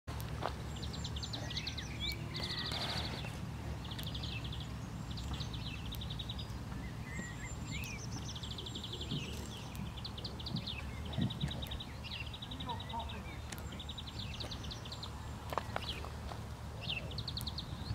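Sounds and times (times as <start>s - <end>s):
songbirds trilling: 0.1s - 17.9s
steady low rumble: 0.1s - 17.9s
bird chirps: 0.6s - 17.9s.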